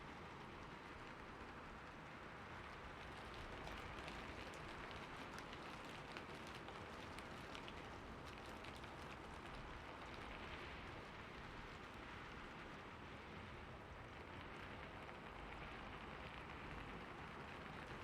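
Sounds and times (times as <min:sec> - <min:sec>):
steady rain: 0:00.0 - 0:18.0
raindrops ticking close by: 0:00.1 - 0:18.0.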